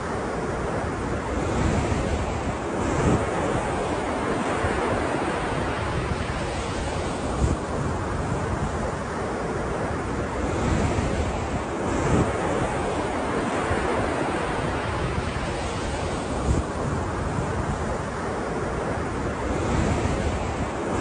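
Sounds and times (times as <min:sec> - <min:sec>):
ocean surf washing in: 0:00.0 - 0:21.0.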